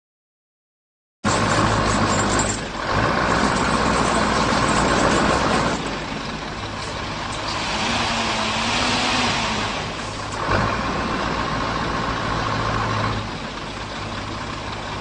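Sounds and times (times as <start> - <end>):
heavy truck engines running: 1.3 - 15.0.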